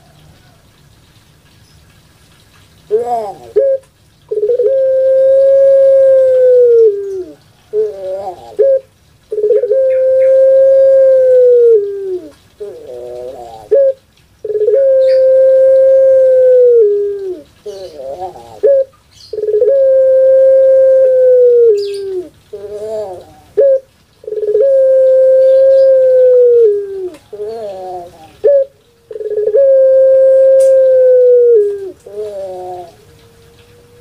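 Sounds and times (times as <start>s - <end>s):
dove cooing: 2.8s - 34.0s.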